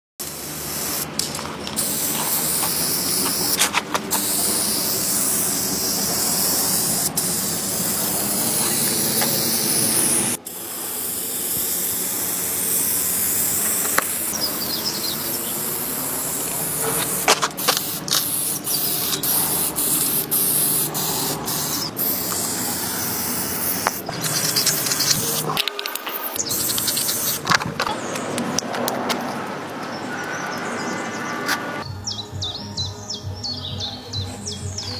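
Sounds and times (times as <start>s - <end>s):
spray paint can hissing: 0.2s - 28.3s.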